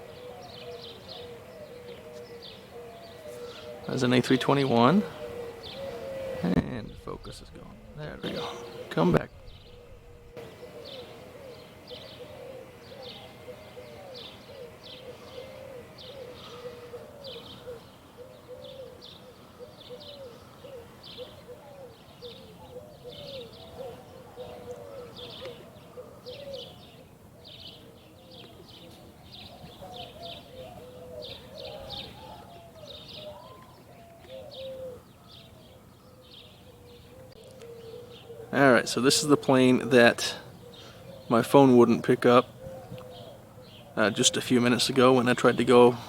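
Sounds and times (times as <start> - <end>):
birds rising and falling calls: 0.0 - 46.0.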